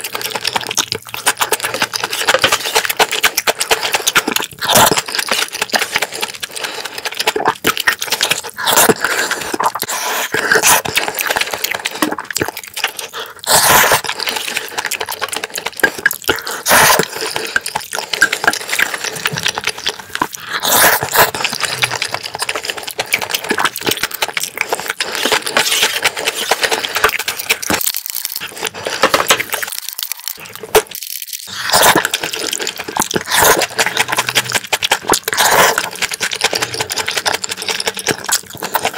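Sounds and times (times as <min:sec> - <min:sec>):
wet chewing and mouth smacks: 0:00.0 - 0:38.9.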